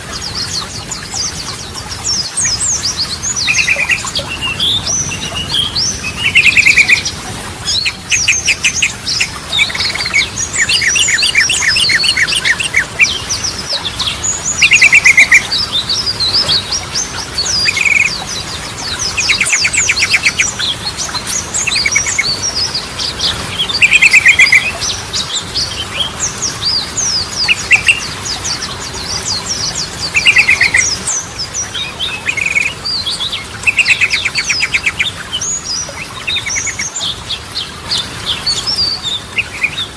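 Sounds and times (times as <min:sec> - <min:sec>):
bird singing trills and chirps: 0:00.0 - 0:39.9.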